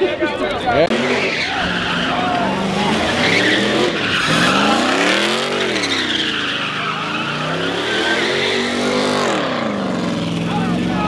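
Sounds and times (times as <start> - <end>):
tires screeching: 0.1 - 11.0
car engine revving: 0.6 - 11.0.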